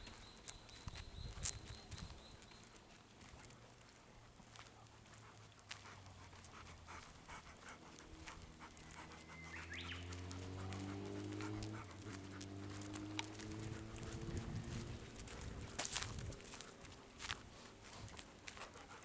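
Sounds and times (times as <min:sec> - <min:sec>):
dog panting: 0:02.7 - 0:19.0.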